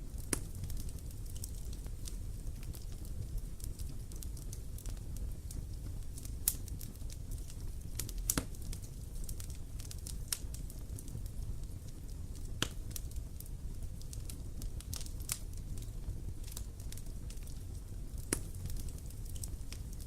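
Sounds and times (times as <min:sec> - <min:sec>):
bonfire crackling and popping: 0:00.0 - 0:20.0
low fire rumble: 0:00.0 - 0:20.0.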